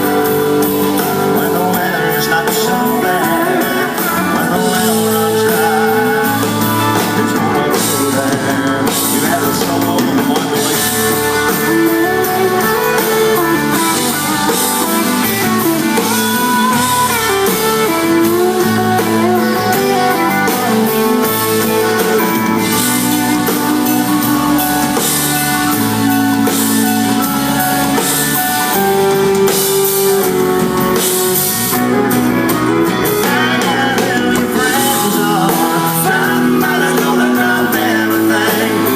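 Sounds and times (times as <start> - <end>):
drum kit: 0.0 - 38.9
guitar: 0.0 - 38.9
live country band playing: 0.0 - 38.9.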